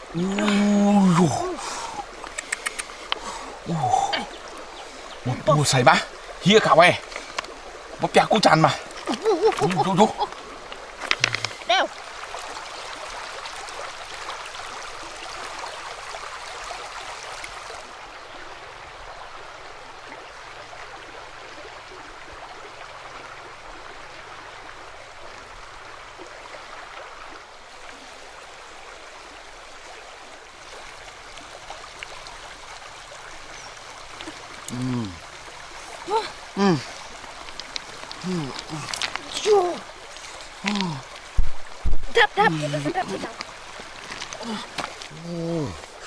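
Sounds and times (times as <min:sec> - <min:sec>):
river water flowing over stones: 0:00.0 - 0:46.0.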